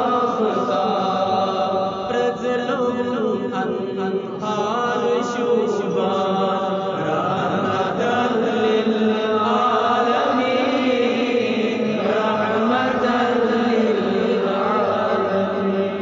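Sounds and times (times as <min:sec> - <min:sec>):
person chanting religious recitation: 0:00.0 - 0:16.0.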